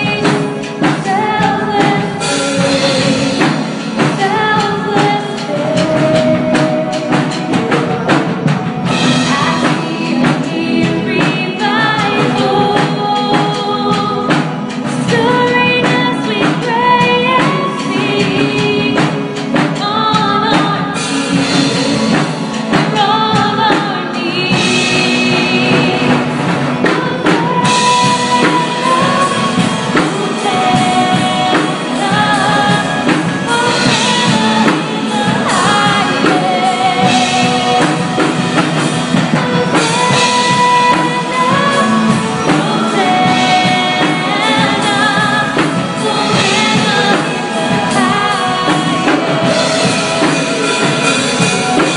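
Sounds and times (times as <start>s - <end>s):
live band playing: 0.0s - 51.9s
steady drum beat: 0.0s - 51.9s
woman singing into a microphone: 0.0s - 51.9s.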